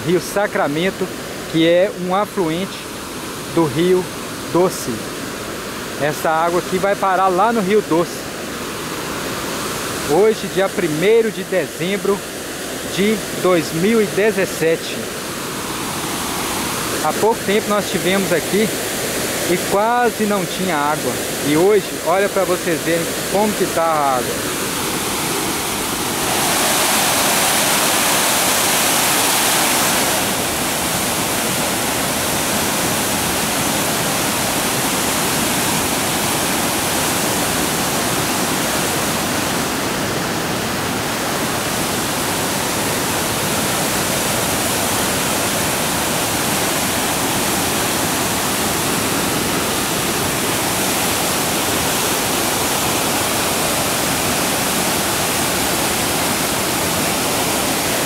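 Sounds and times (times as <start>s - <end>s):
floodwater rushing through rapids: 0.0s - 58.0s.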